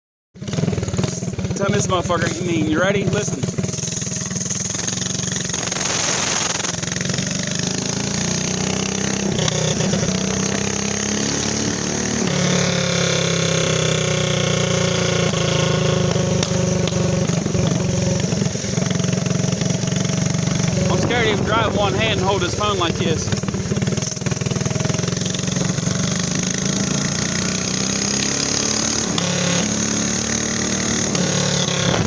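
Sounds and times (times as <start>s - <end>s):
minibike engine revving: 0.4s - 32.0s.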